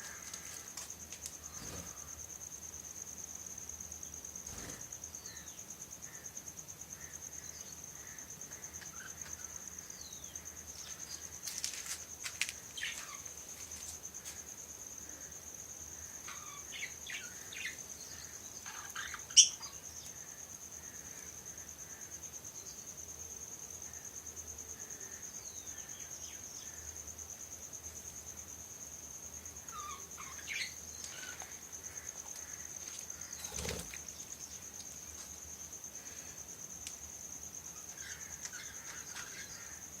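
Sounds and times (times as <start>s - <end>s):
high insect trill: 0.0s - 40.0s.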